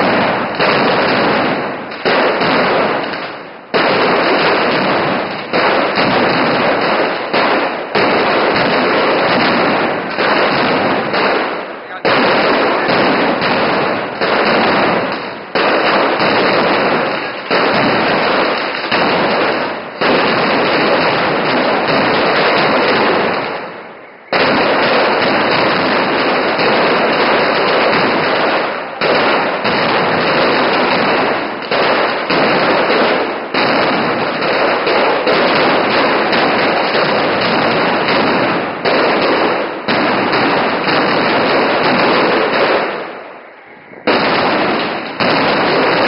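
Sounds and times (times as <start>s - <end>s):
firecracker bangs barrage: 0.0s - 46.0s.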